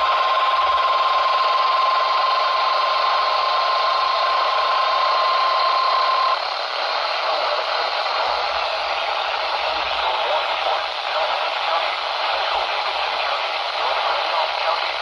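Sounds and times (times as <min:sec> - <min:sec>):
radio static hiss: 0:00.0 - 0:15.0
steady warning alarm tone: 0:00.0 - 0:15.0.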